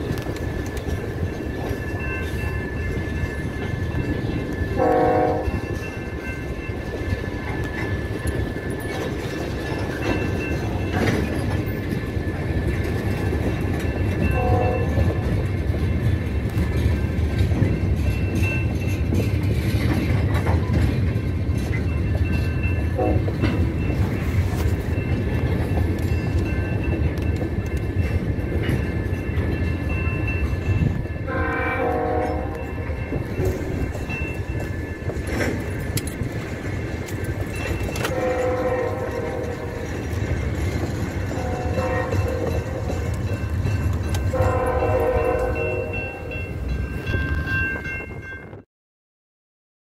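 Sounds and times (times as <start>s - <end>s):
steel wheels rumbling on rail: 0.0s - 48.6s.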